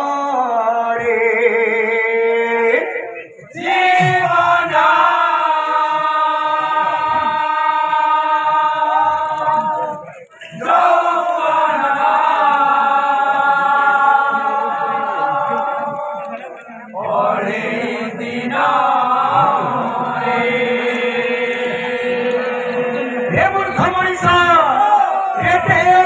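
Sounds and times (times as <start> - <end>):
group chanting long notes: 3.5 - 26.0.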